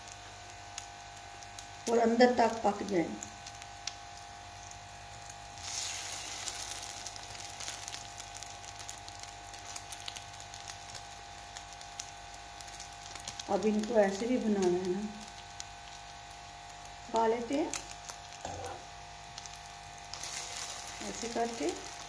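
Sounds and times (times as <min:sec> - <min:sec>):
bread sizzling in butter: 0:00.0 - 0:22.0.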